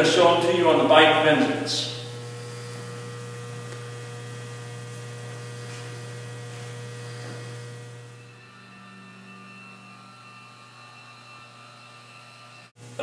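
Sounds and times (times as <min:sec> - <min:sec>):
thin high tone: 0:00.0 - 0:12.7
low electrical hum: 0:00.0 - 0:13.0.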